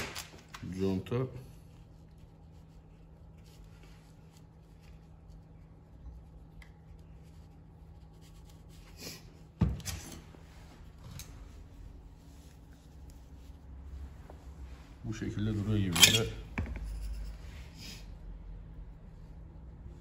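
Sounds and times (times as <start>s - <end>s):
faint steady hum: 0.0s - 20.0s
soft rubbing and scraping: 1.4s - 18.2s.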